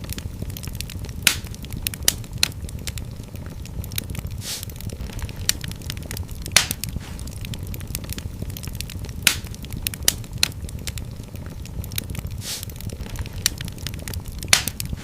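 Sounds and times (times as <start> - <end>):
fire hissing: 0.0 - 15.0
wood fire crackling: 0.0 - 15.0.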